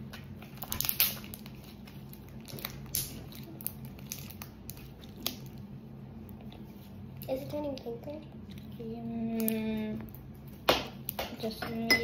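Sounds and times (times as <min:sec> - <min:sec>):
slime clicking and crackling: 0:00.0 - 0:08.7, 0:09.3 - 0:11.6
faint steady hum: 0:00.0 - 0:12.0.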